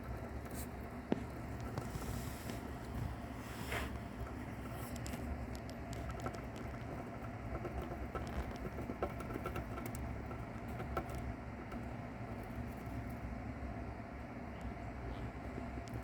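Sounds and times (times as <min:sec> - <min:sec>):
mouse chewing hard shell: 0:00.0 - 0:13.4.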